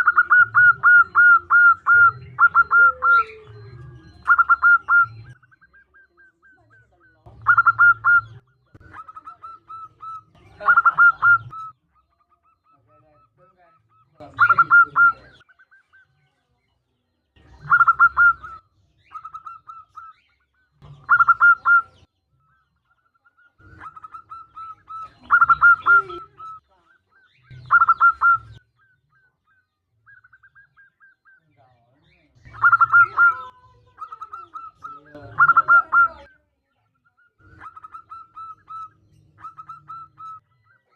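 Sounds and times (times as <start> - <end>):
dove cooing: 0.0 - 16.2, 17.4 - 36.5, 37.1 - 40.9.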